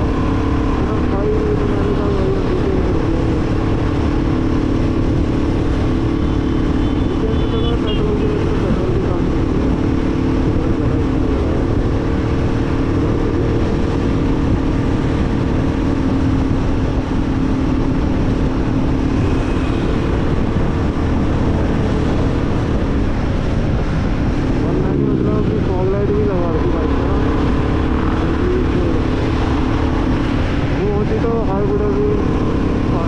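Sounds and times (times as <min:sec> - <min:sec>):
motorcycle engine cruising: 0:00.0 - 0:33.0
road noise rushing: 0:00.0 - 0:33.0.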